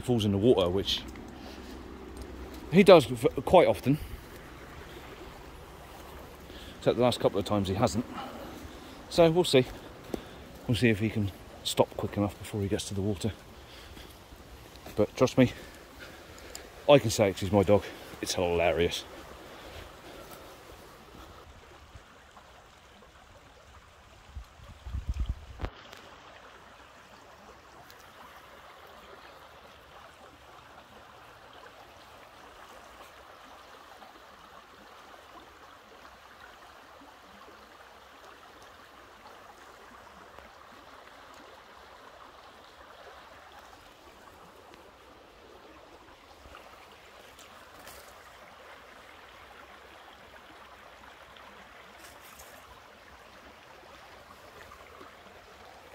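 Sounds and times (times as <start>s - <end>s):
stream water running: 0.0s - 55.9s.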